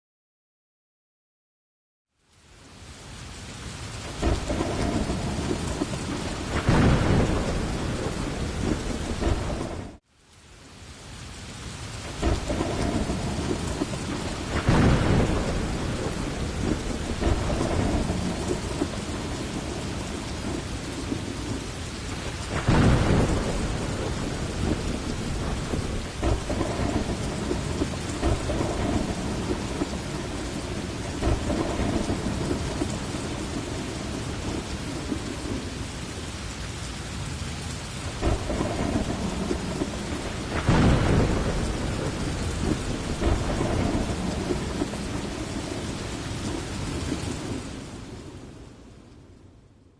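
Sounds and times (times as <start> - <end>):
heavy rain: 2.1 - 49.9
thunder rolling: 4.1 - 10.0, 12.0 - 35.9, 38.0 - 48.6.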